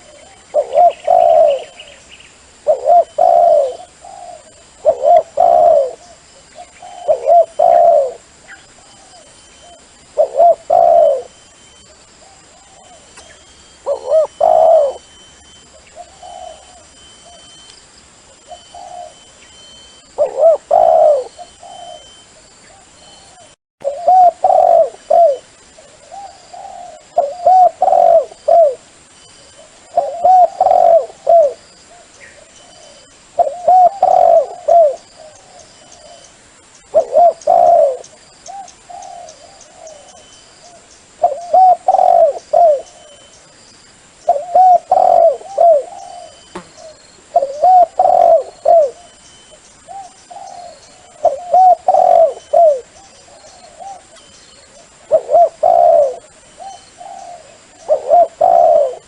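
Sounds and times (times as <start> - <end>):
dove cooing: 0.0 - 17.6, 18.3 - 28.9, 29.6 - 43.3, 44.3 - 59.0.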